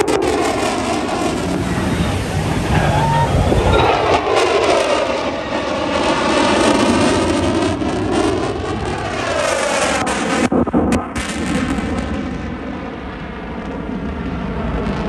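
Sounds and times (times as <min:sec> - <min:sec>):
aircraft flying overhead: 0:00.0 - 0:15.0.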